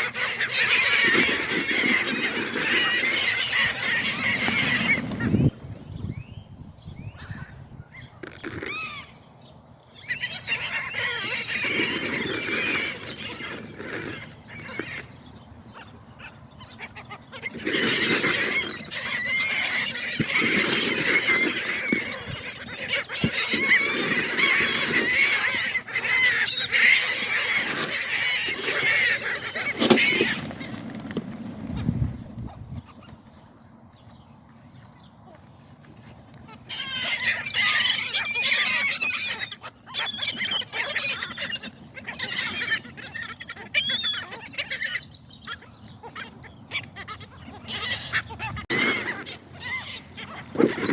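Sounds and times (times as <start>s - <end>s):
seagulls calling: 0.0s - 34.2s, 34.9s - 50.9s.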